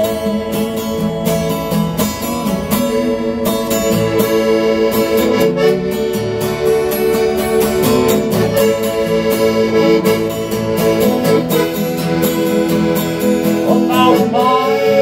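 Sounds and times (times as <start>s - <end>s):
accordion sustained chords: 0.0s - 15.0s
strummed acoustic guitar: 0.0s - 15.0s.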